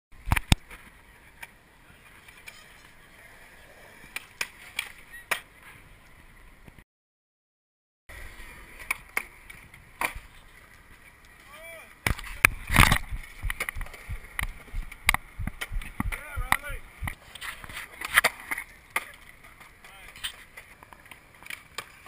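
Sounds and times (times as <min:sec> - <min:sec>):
skateboard wheels rolling: 0:00.4 - 0:06.8, 0:08.1 - 0:22.0.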